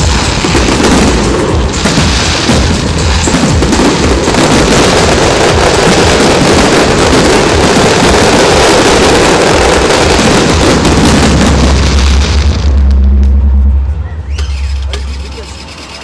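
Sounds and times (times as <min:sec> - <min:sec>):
fireworks barrage: 0:00.0 - 0:16.0.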